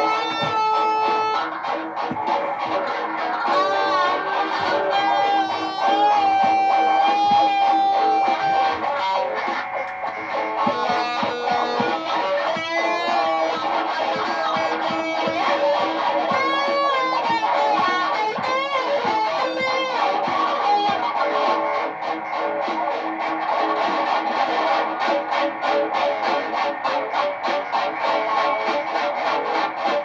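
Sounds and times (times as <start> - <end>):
electric guitar bent notes: 0.0 - 30.0
guitar drone: 0.0 - 30.0.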